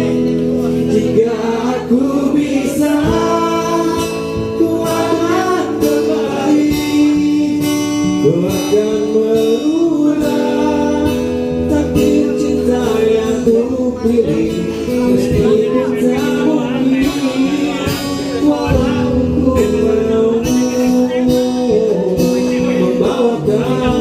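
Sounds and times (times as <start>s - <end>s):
instrumental accompaniment: 0.0s - 24.0s.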